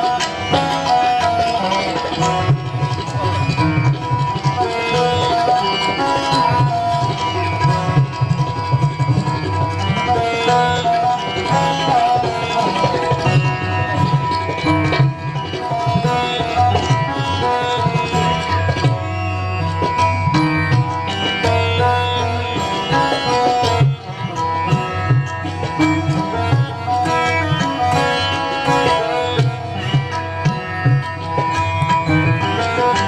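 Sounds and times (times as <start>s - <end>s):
tabla strokes: 0.0s - 33.0s.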